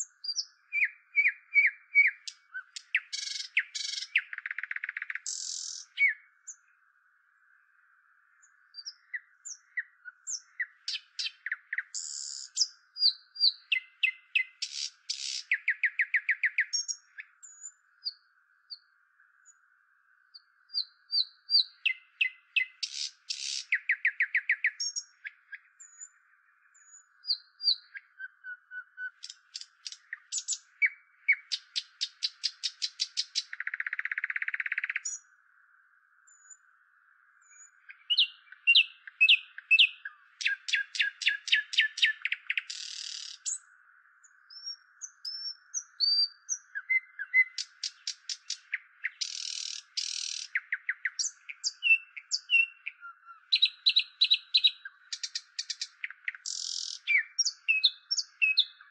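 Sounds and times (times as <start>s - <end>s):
nightingale singing: 0.0s - 58.9s.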